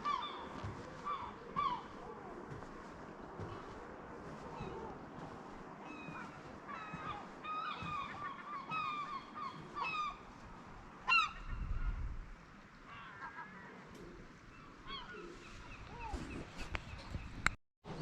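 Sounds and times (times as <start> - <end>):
seagulls calling: 0.0 - 12.1, 12.9 - 17.2.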